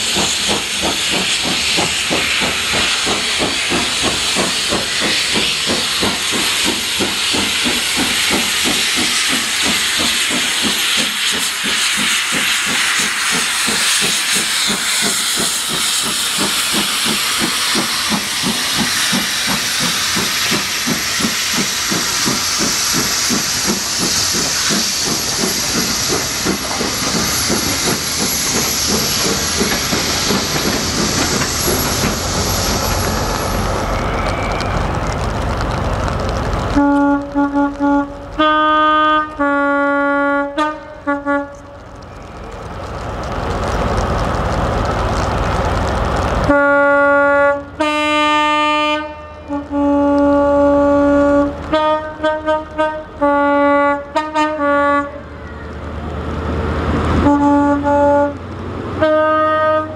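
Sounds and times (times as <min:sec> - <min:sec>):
steam hissing: 0:00.0 - 0:55.2
steam locomotive exhaust beat: 0:00.0 - 0:59.9.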